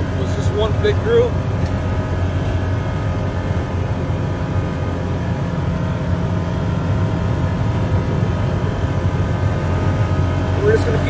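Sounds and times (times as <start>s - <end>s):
off-road vehicle engine drone: 0.0s - 11.0s
road and wind noise: 0.0s - 11.0s.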